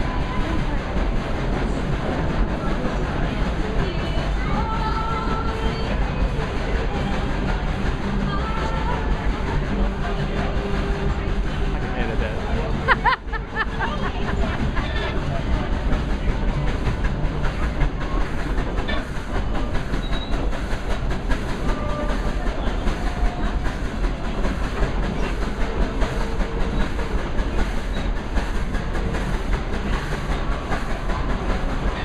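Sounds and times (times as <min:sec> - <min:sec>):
train rumbling: 0:00.0 - 0:32.0
wheels clacking over rail joints: 0:00.0 - 0:32.0.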